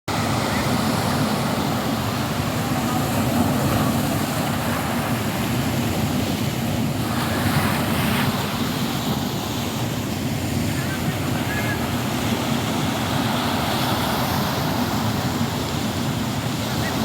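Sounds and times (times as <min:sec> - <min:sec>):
sea surf on rocky shore: 0:00.1 - 0:17.0
wind: 0:00.1 - 0:17.0.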